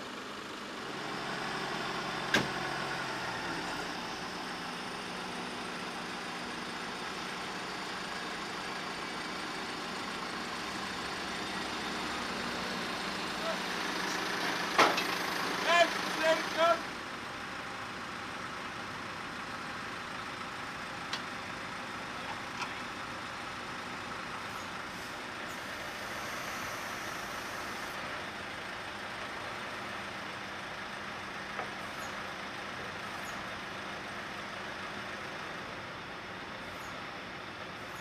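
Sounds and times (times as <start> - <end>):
diesel truck engine running: 0.0 - 38.0.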